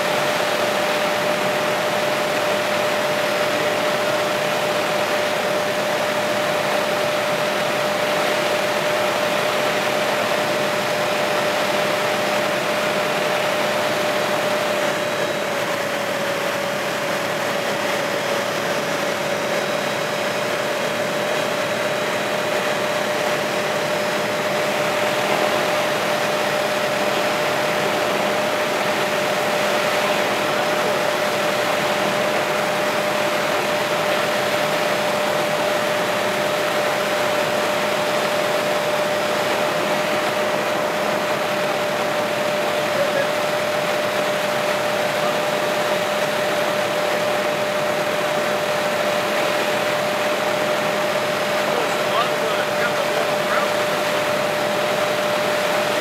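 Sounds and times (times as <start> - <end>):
helicopter cabin engine and rotor noise: 0.0 - 56.0.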